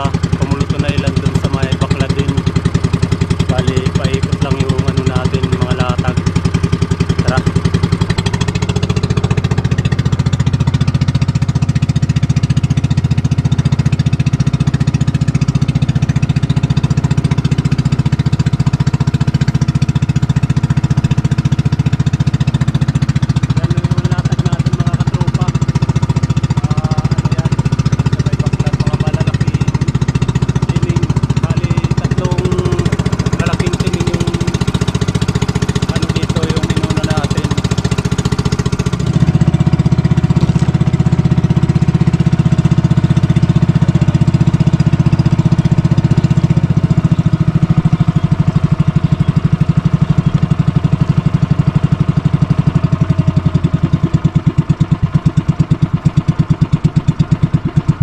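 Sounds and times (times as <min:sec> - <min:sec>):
boat engine running steadily: 0:00.0 - 0:58.0.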